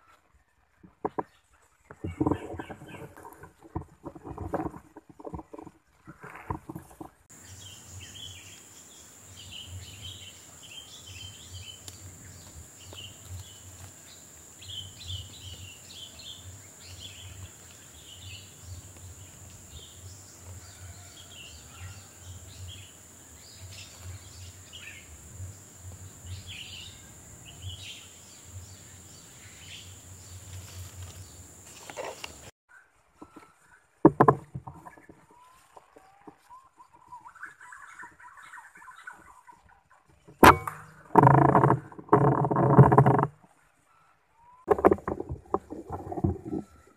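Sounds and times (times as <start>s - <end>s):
small birds chirping: 5.2s - 34.0s, 34.6s - 46.9s.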